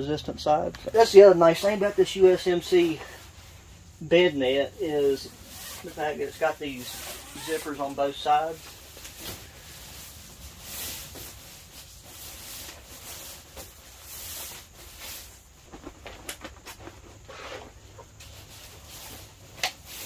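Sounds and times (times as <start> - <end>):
fabric and mesh rustling: 0.9 - 20.0.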